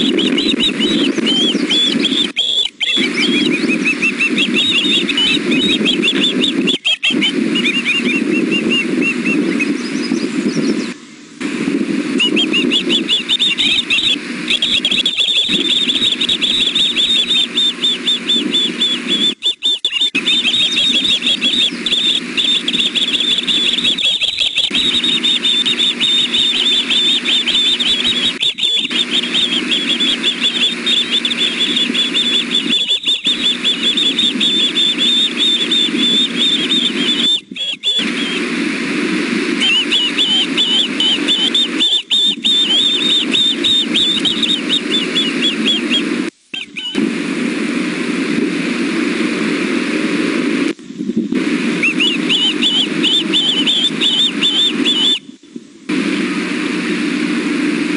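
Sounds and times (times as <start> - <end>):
young birds high-pitched chirping: 0.0 - 11.0, 12.1 - 38.6, 39.5 - 47.0, 51.8 - 55.2
steady low hum: 0.0 - 57.9.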